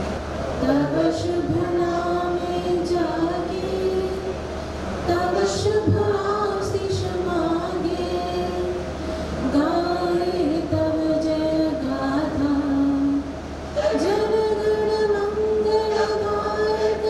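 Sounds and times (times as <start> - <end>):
woman singing an anthem: 0.6 - 4.4, 5.1 - 8.8, 9.4 - 17.0.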